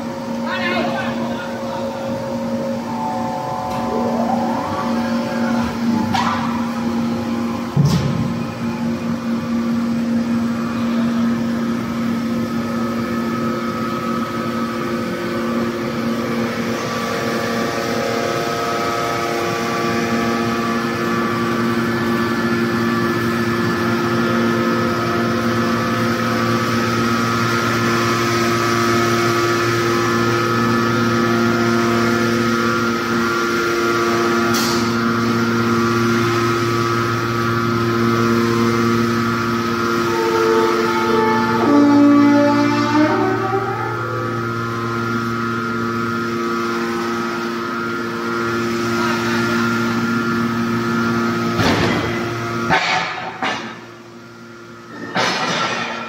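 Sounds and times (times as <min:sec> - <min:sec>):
hydraulic unit humming and hissing: 0:00.0 - 0:56.0.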